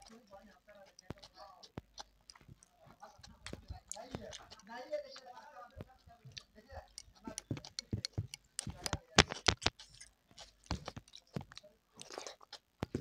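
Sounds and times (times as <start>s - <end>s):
lip smacks: 0.0s - 13.0s
wet chewing: 0.0s - 13.0s.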